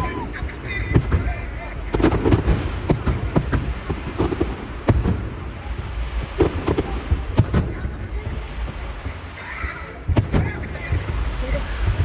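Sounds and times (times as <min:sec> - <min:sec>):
echoing booms rumble: 0:00.0 - 0:12.0
fireworks bangs and cracks: 0:00.0 - 0:12.0.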